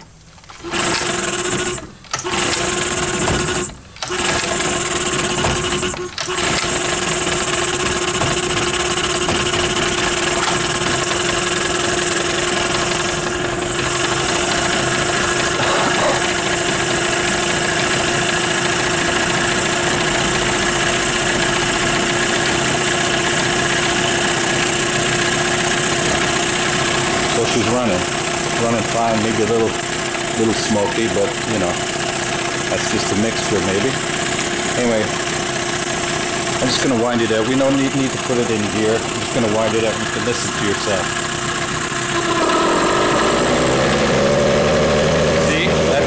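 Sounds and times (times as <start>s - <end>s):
outboard motor idling: 0.8s - 46.0s.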